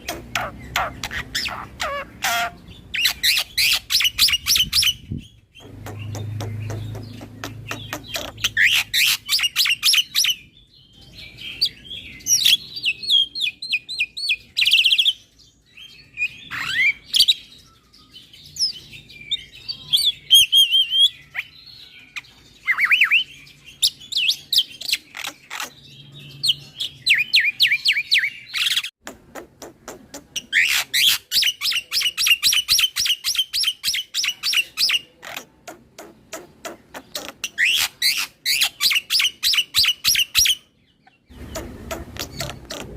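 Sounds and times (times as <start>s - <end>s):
bird singing: 0.0s - 29.0s, 30.2s - 42.9s.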